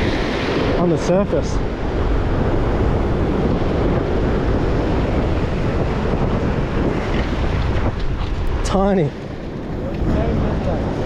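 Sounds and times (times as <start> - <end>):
ocean surf on rocks: 0.0 - 11.0
wind buffeting microphone: 0.0 - 11.0.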